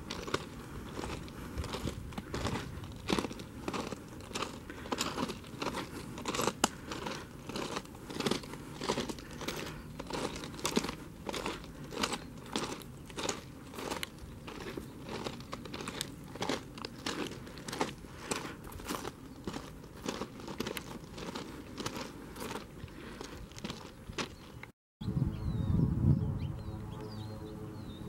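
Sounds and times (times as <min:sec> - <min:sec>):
footsteps crunching on gravel: 0:00.0 - 0:24.7.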